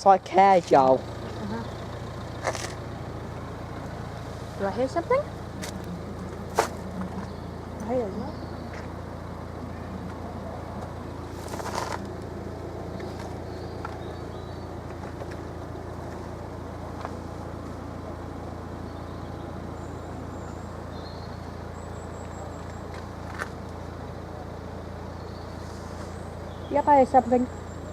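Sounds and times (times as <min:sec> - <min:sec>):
low rumble of road traffic: 0:00.0 - 0:27.9.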